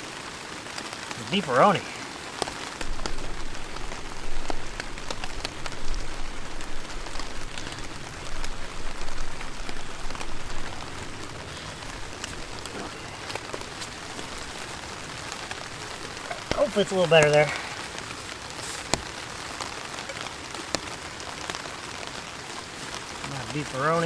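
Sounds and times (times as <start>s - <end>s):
heavy rain on a tarp: 0.0s - 24.0s
large raindrops hitting close by: 0.0s - 24.0s.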